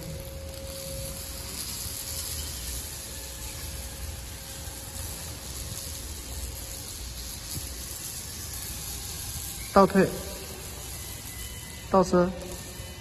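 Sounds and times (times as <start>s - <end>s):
electric wheelchair motor whirring: 0.0s - 13.0s.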